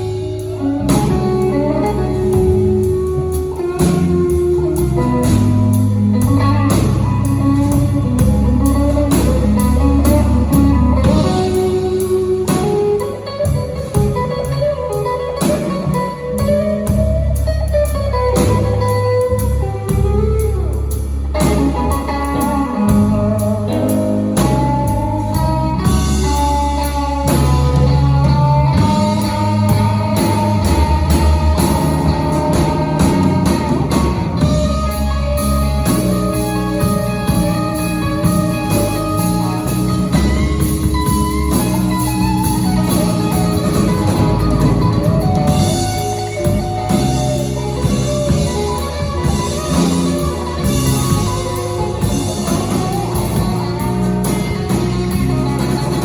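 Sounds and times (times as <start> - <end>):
blues band playing: 0.0 - 56.0
electric guitar lead with bent notes: 0.0 - 56.0.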